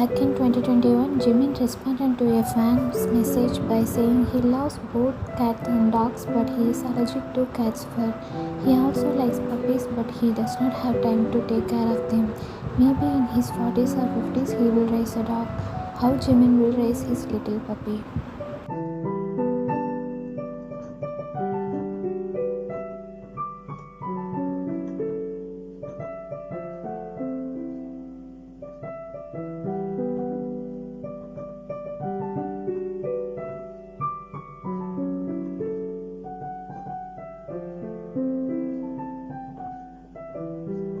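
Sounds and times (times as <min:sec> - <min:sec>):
solo piano melody: 0:00.0 - 0:41.0.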